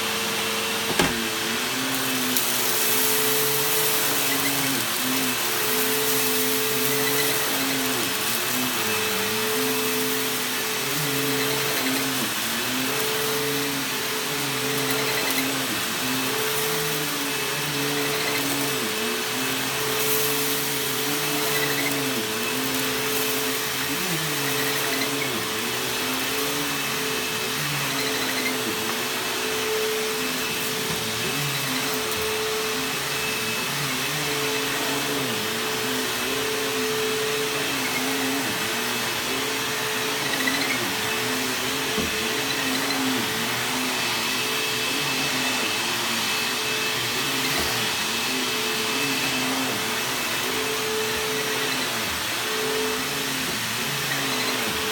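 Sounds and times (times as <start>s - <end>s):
upright vacuum cleaner on carpet: 0.0s - 54.9s.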